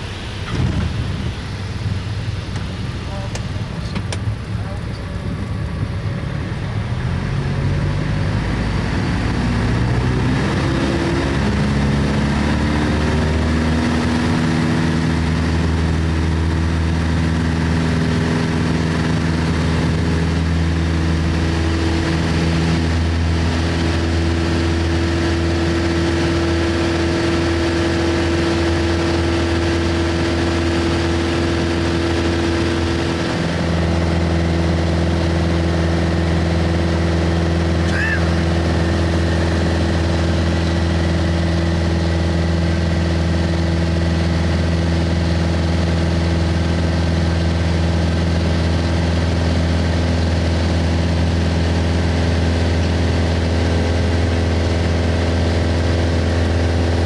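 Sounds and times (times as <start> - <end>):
airplane engine and propeller: 0.0 - 57.0.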